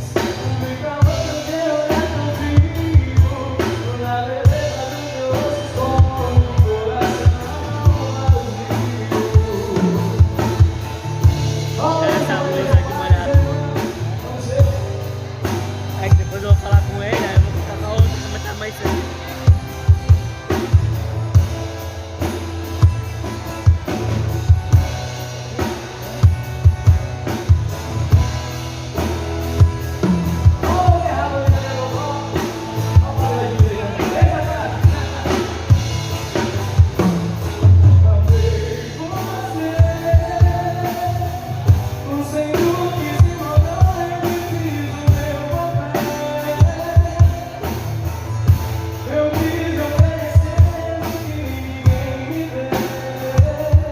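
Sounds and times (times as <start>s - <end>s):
person singing: 0.0s - 20.8s, 30.0s - 48.0s, 48.9s - 53.9s
live band with drum beat: 0.0s - 53.9s.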